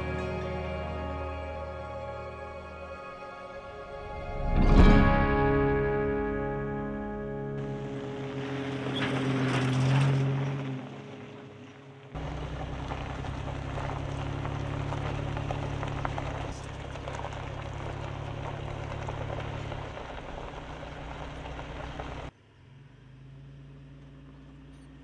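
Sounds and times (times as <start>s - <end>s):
low engine hum: 0.0s - 25.0s
road and tyre noise: 0.0s - 25.0s.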